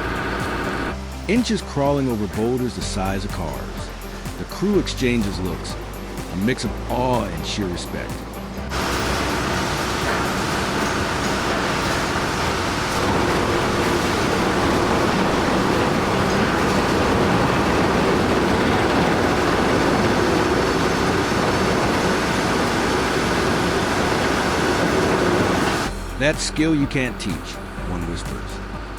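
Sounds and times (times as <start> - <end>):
heavy construction machinery running: 0.0 - 28.9.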